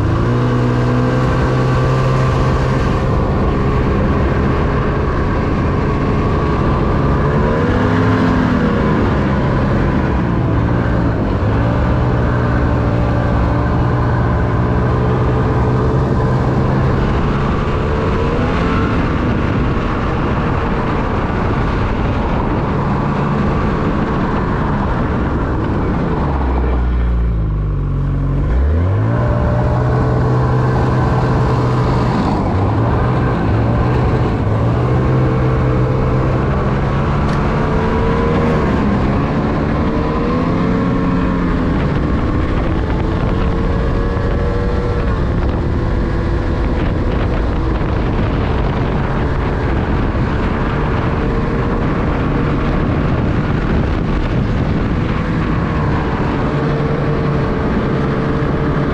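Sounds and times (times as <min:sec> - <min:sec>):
snowmobile engine revving: 0:00.0 - 0:58.9.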